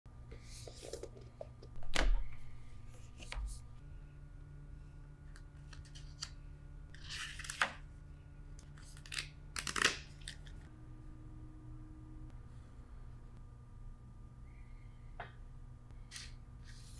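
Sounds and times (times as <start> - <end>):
faint steady hum: 0.1 - 16.9.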